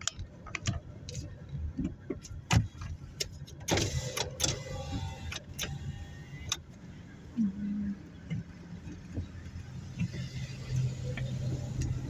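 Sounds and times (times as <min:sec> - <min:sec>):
clicks and knocks in car cabin: 0:00.0 - 0:06.6, 0:08.2 - 0:12.0
road and engine rumble: 0:00.0 - 0:12.0.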